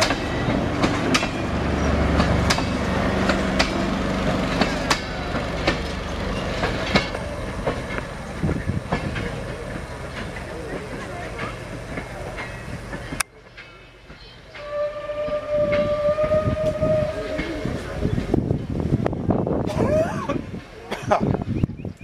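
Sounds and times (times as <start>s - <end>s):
train wheels clicking over rail joints: 0.0s - 19.8s.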